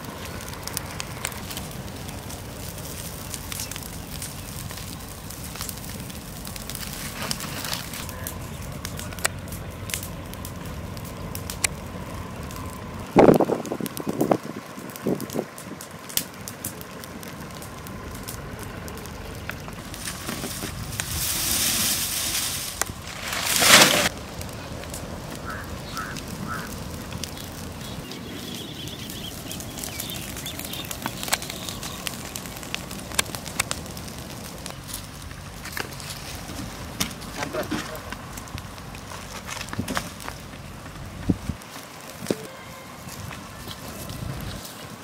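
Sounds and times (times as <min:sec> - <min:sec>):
fire crackling and popping: 0:00.0 - 0:45.0.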